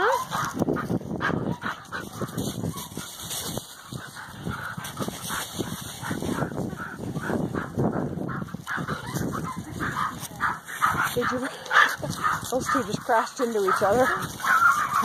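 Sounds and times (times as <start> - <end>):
puppies rustling through leaves: 0.0 - 7.5, 8.6 - 15.0
puppy vocal sounds: 0.0 - 15.0.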